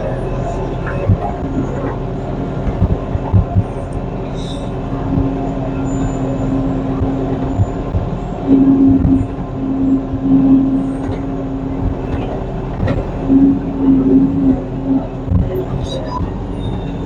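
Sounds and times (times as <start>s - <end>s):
steady hum: 0.0s - 17.0s
tractor engine running: 0.0s - 17.0s
low knocks and clunks: 0.8s - 17.0s.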